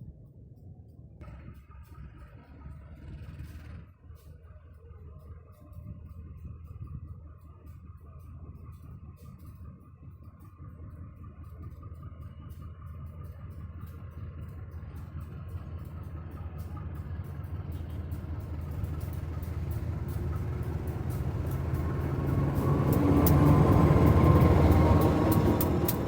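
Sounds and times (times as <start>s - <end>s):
diesel locomotive engine droning: 1.2s - 26.0s.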